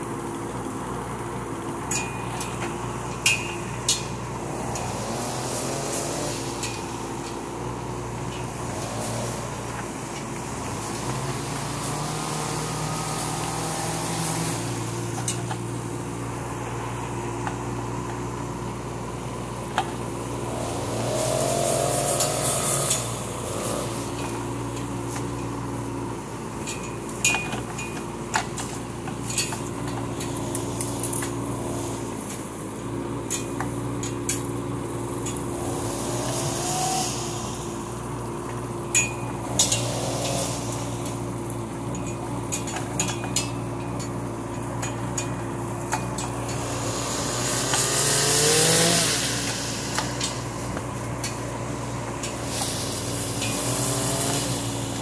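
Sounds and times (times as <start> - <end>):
mini excavator diesel engine running: 0.0 - 55.0
hydraulic whine: 1.9 - 55.0.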